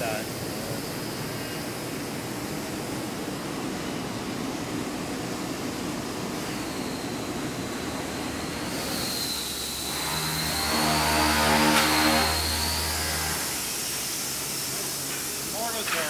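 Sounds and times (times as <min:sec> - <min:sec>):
air sander high whine: 0:00.0 - 0:16.0.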